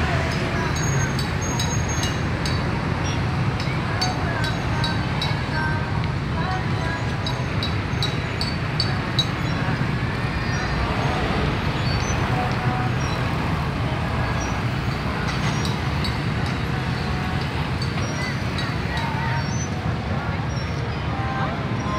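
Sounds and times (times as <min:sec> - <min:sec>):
people's voices: 0:00.0 - 0:21.9
road traffic engine rumble: 0:00.0 - 0:21.9.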